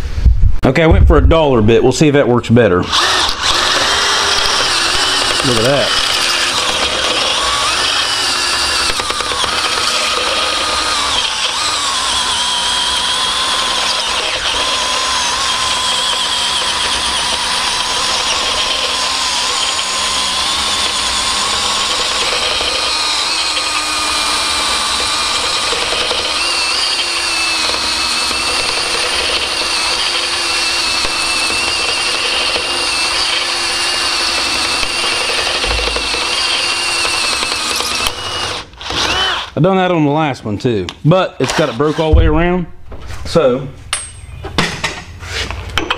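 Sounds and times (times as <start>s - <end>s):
cordless drill whining: 2.8s - 39.6s, 41.4s - 42.1s.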